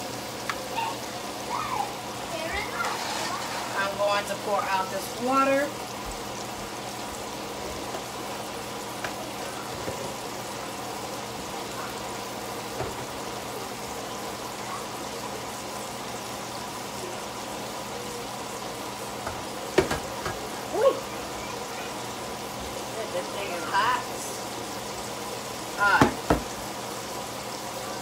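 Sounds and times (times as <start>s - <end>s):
patties sizzling in skillet: 0.0s - 28.0s.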